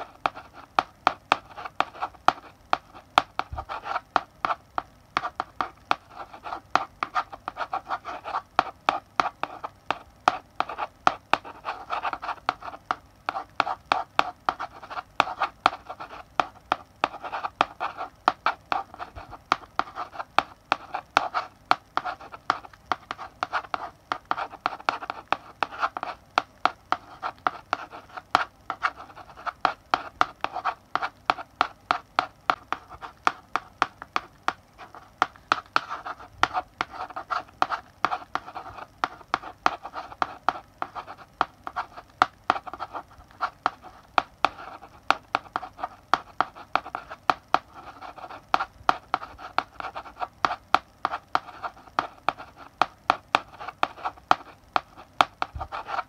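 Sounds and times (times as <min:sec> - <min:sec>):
chalk tapping on blackboard: 0:00.0 - 0:56.0
chalk scratching on blackboard: 0:05.2 - 0:56.0.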